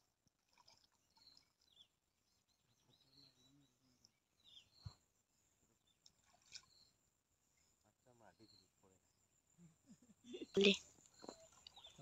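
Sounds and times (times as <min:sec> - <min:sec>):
faint high chirps: 0:01.1 - 0:12.0.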